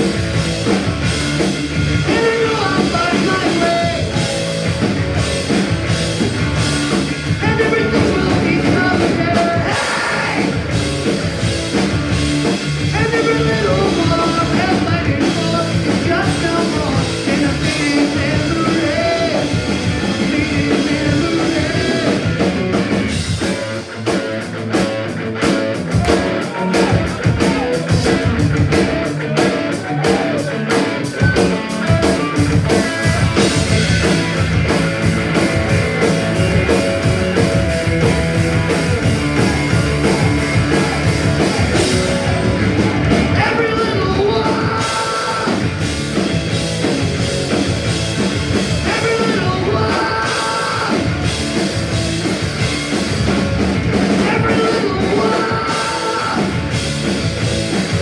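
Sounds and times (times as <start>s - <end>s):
bass guitar: 0.0s - 58.0s
distorted electric guitars: 0.0s - 58.0s
fast drums: 0.0s - 58.0s.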